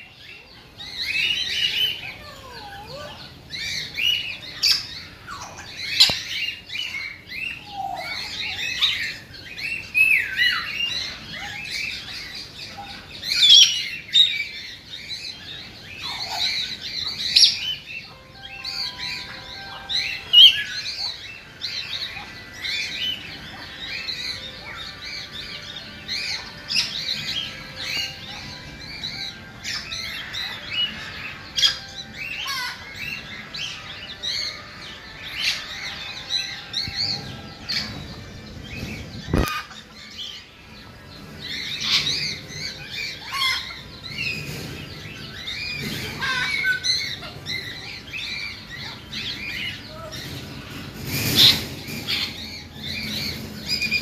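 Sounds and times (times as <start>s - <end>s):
chorus of small birds chirping: 0.0s - 54.0s.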